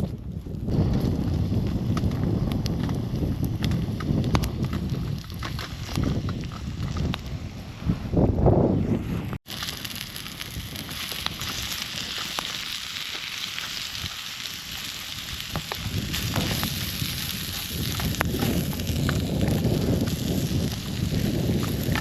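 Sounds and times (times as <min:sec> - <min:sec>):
campfire crackling: 0:00.0 - 0:07.8, 0:09.4 - 0:22.0
fire pops: 0:00.0 - 0:08.0, 0:09.1 - 0:22.0
wind rumble on microphone: 0:00.0 - 0:22.0.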